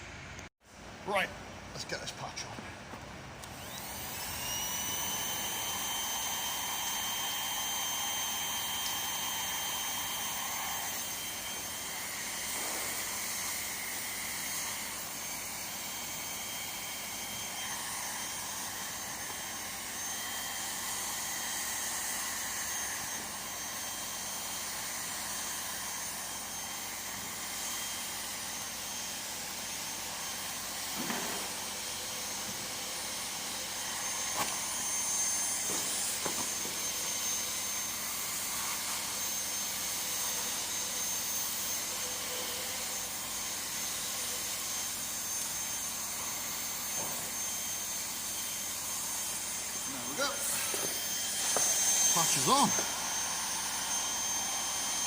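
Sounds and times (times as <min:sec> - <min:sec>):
hot air gun blowing: 0:03.4 - 0:55.0.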